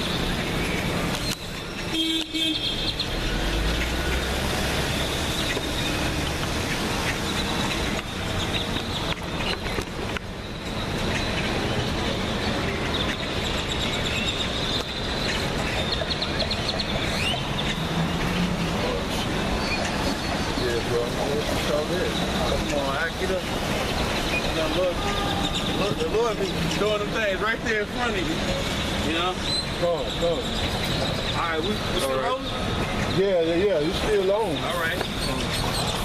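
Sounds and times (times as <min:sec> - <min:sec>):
small birds chirping: 0:00.0 - 0:36.0
traffic: 0:00.0 - 0:36.0.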